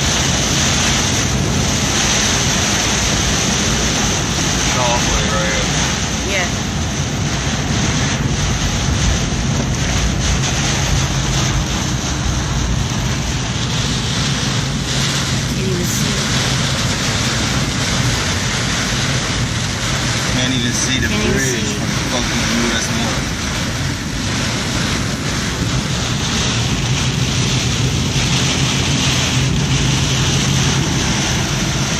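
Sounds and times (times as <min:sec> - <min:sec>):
car engine and tyres hum: 0:00.0 - 0:31.9
hurricane wind and rain: 0:00.0 - 0:31.9.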